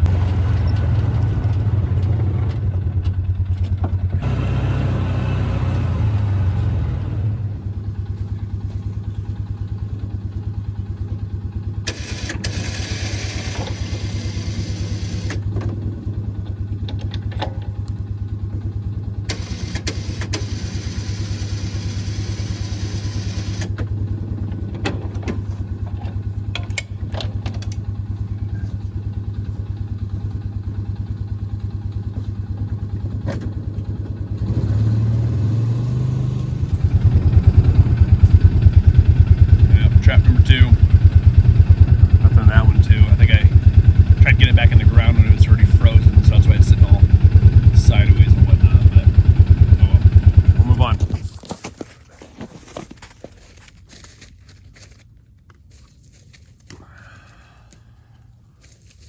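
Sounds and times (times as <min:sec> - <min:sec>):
utv engine running: 0:00.0 - 0:59.0.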